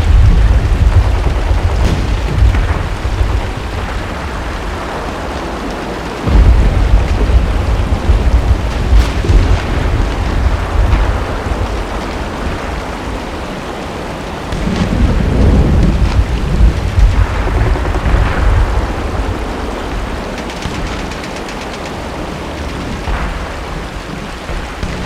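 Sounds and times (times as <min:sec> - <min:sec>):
rolling thunder: 0:00.0 - 0:25.0
steady rain: 0:00.0 - 0:25.0.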